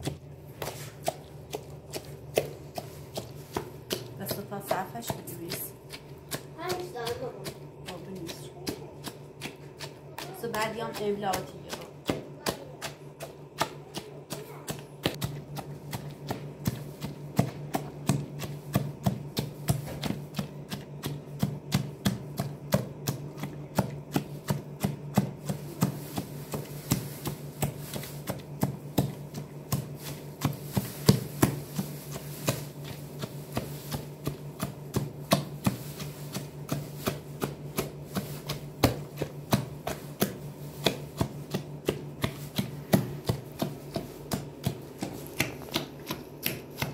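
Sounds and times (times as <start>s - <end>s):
pestle crushing fruit: 0.0s - 46.9s.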